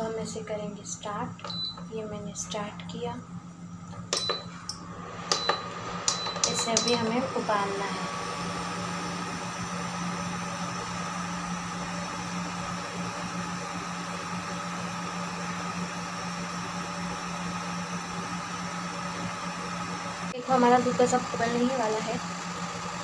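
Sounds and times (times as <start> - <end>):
induction cooktop hum: 0.0 - 23.0.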